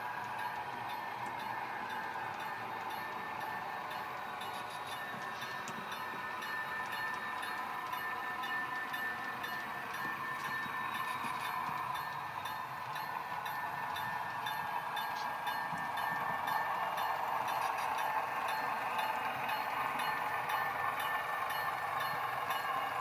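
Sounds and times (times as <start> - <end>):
light clicks of wheels on rail joints: 0.0 - 23.0
model train whirring: 0.0 - 23.0.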